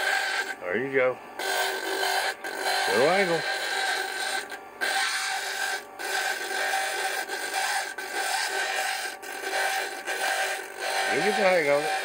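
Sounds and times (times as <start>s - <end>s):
stone grinding on lapidary disc: 0.0s - 0.6s, 1.4s - 12.0s.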